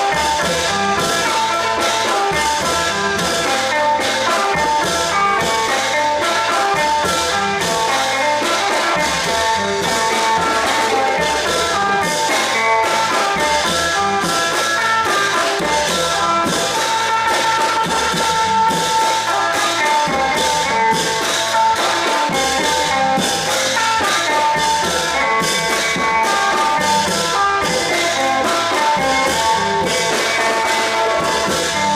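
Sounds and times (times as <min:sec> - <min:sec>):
rapid drumbeat: 0:00.0 - 0:31.9.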